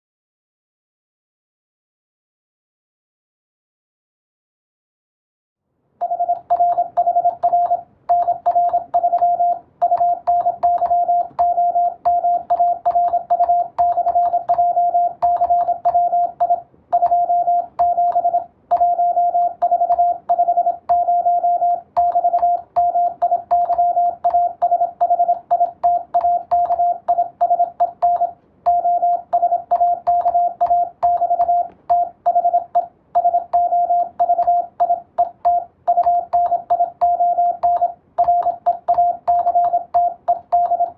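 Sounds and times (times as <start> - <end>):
morse code tone: 6.0 - 40.9.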